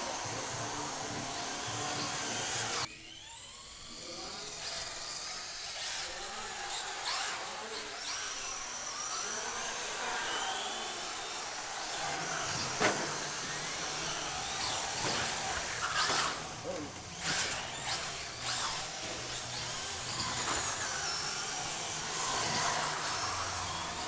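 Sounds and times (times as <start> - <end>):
rc car electric motors whining: 0.0 - 24.0.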